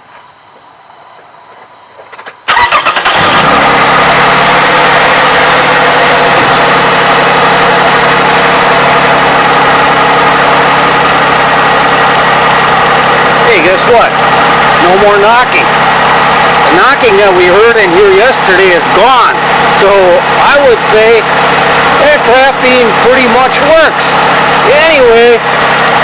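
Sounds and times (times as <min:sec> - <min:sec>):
car engine cranking and idling: 0:02.0 - 0:26.0.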